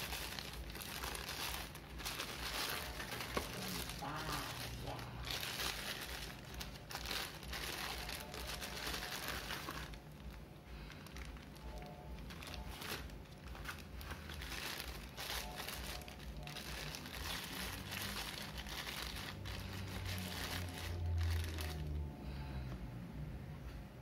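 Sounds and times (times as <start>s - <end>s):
plastic bag crinkling: 0.0s - 22.1s
low steady hum: 0.0s - 24.0s.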